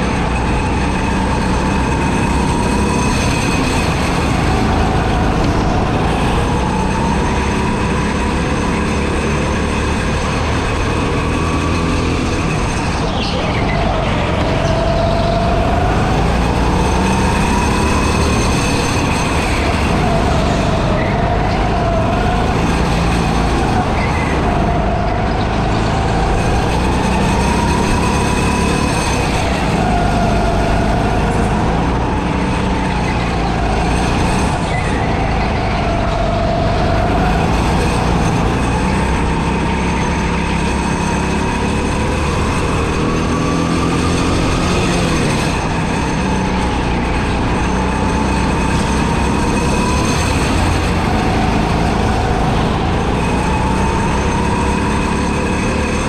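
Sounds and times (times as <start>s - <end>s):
go-kart motor revving: 0.0s - 56.0s.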